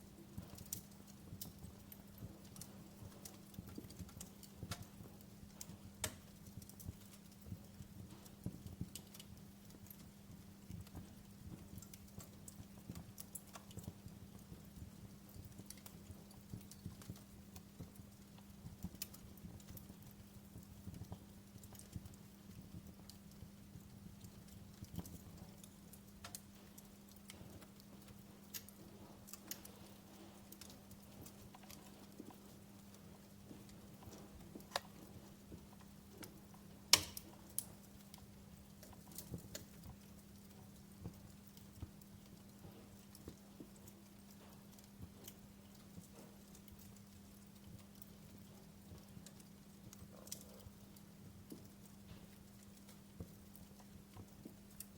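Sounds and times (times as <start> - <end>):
faint steady hum: 0.0 - 54.9
wood fire crackling: 0.0 - 54.9.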